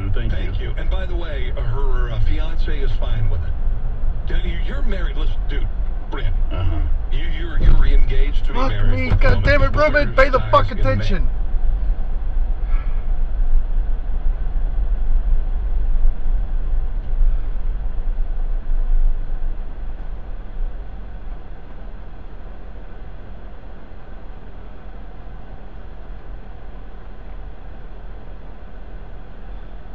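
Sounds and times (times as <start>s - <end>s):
car road and engine noise: 0.0s - 29.9s.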